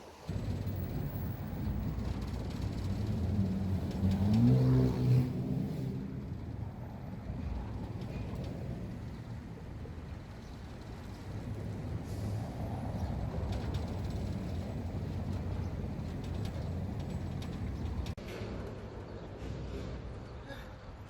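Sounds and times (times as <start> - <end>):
vehicle engine revving: 0.3 - 18.2.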